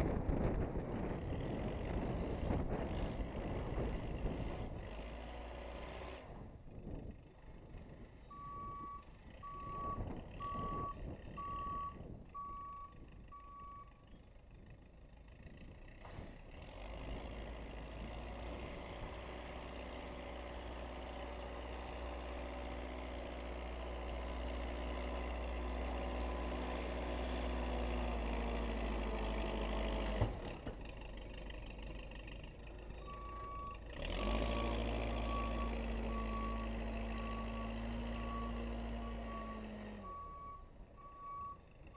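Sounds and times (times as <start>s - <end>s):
backhoe engine working: 0.0s - 41.9s.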